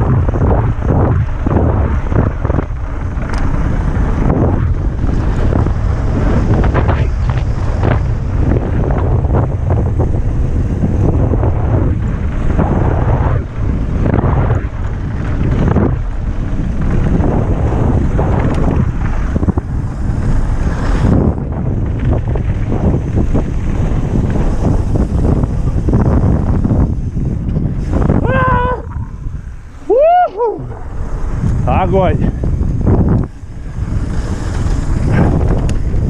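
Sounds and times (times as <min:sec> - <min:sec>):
bike rattling over bumps: 0:00.0 - 0:36.0
tyres rumbling on dirt: 0:00.0 - 0:36.0
wind buffeting microphone: 0:00.0 - 0:36.0.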